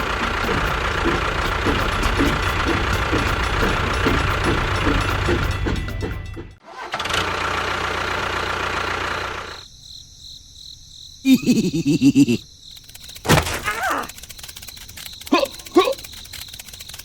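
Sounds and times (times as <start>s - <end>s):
small engine running: 0.0s - 9.6s, 12.8s - 17.0s.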